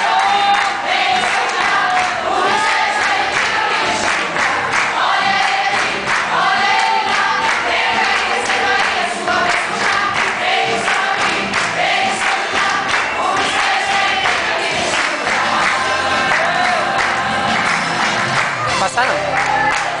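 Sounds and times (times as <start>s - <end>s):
women singing a hymn: 0.0s - 17.9s.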